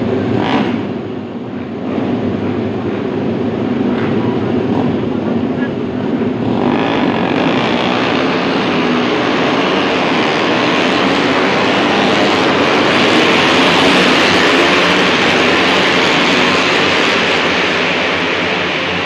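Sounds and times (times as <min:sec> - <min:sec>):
racing motorcycles accelerating: 0:00.0 - 0:19.0.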